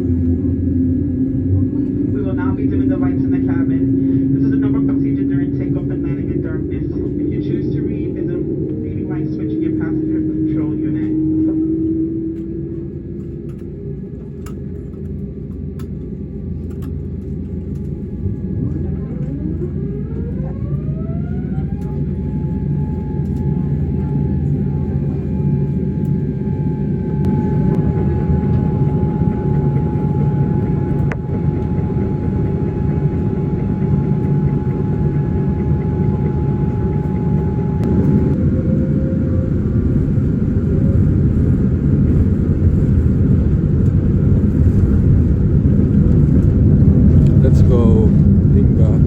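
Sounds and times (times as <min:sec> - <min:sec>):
jet engine whine: 0:00.0 - 0:49.0
low rumble of takeoff roll: 0:00.0 - 0:49.0.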